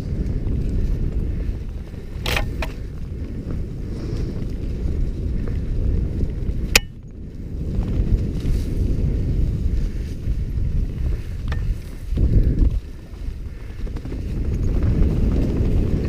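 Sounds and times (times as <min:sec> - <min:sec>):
bike trail rumble: 0:00.0 - 0:16.0
wind rushing over microphone: 0:00.0 - 0:16.0.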